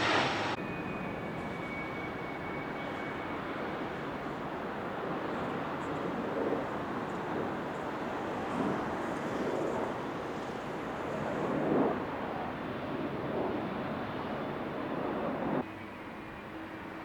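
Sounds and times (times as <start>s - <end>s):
jet engines running: 0.0s - 15.6s.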